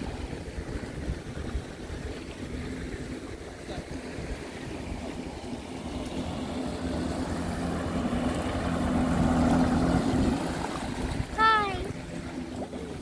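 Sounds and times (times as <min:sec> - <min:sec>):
jet ski engine running: 0:00.0 - 0:13.0
water spraying off hull: 0:00.0 - 0:13.0.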